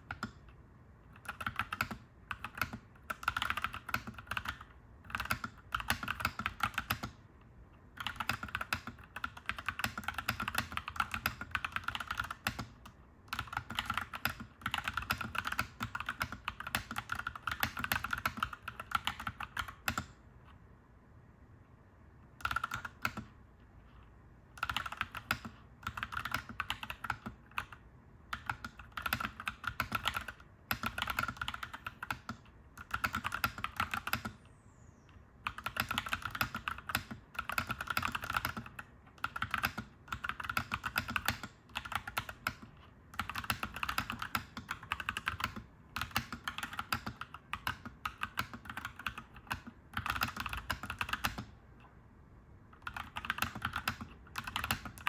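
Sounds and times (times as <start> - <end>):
mechanical keyboard typing: 0.0 - 7.2, 7.9 - 20.2, 22.4 - 23.4, 24.5 - 34.4, 35.4 - 51.6, 52.8 - 55.0
faint low hum: 0.0 - 55.0.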